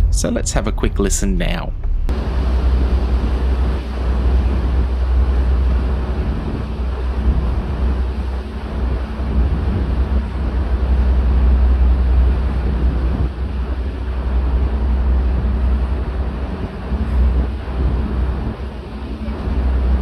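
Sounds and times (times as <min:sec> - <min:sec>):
wind buffeting microphone: 0:00.0 - 0:20.0
diesel engines droning: 0:02.0 - 0:20.0
water wash: 0:02.1 - 0:20.0.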